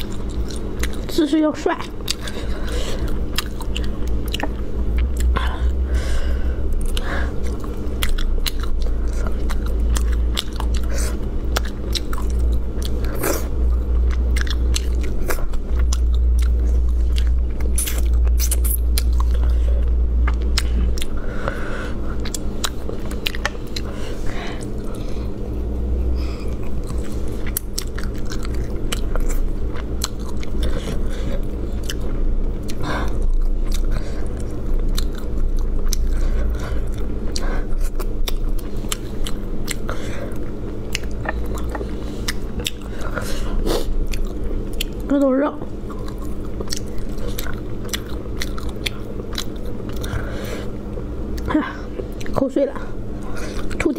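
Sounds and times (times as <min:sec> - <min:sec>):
chewing and crunching bones: 0:00.0 - 0:53.9
steady low hum: 0:00.0 - 0:53.9.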